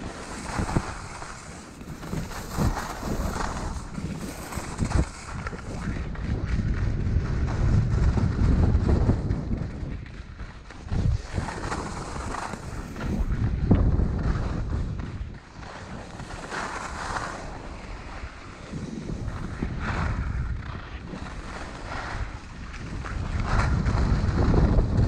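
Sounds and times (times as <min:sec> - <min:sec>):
skis scraping over snow: 0:00.0 - 0:25.0
wind on microphone: 0:00.0 - 0:25.0.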